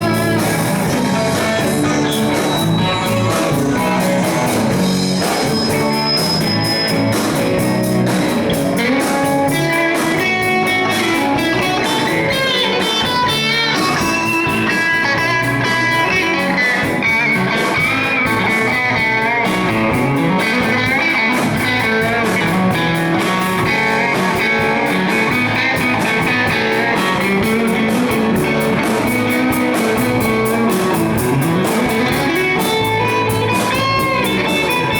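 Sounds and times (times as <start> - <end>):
live guitar music: 0.0 - 34.9.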